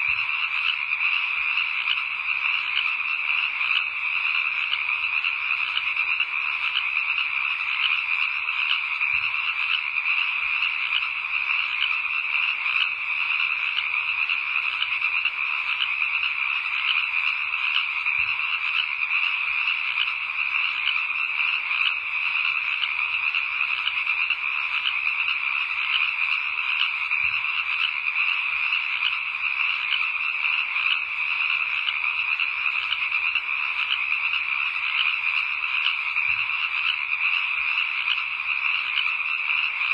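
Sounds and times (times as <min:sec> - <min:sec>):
chorus of night creatures calling: 0:00.0 - 0:39.9.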